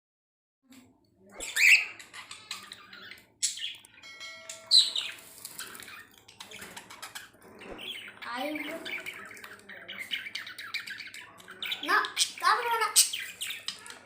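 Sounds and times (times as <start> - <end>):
budgerigars chirping and squawking: 1.3 - 14.0.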